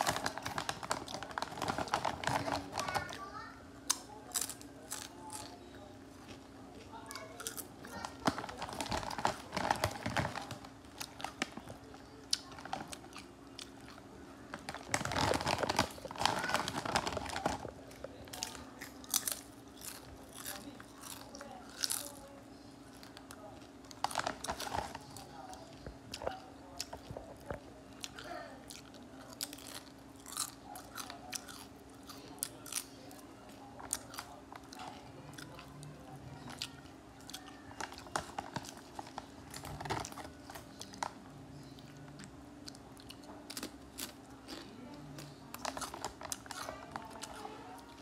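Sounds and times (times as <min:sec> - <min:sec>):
cat crunching chips: 0:00.0 - 0:48.0.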